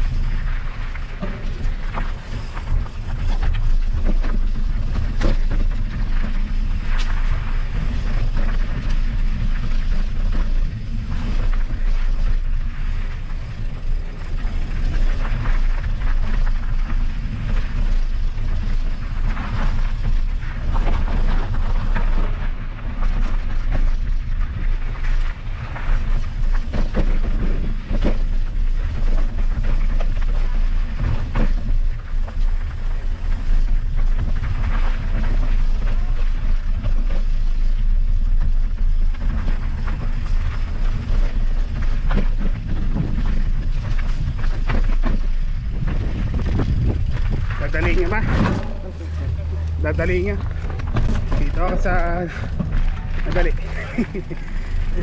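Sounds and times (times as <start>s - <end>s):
bike knocks and rattles: 0.0s - 55.0s
tyre noise on dirt: 0.0s - 55.0s
wind rumbling on microphone: 0.0s - 55.0s.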